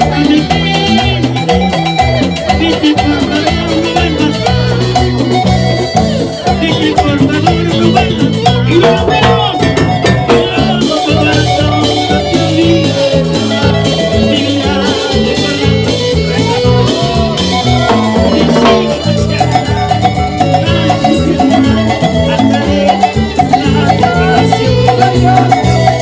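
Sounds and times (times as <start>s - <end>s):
dance band playing live: 0.0s - 26.0s.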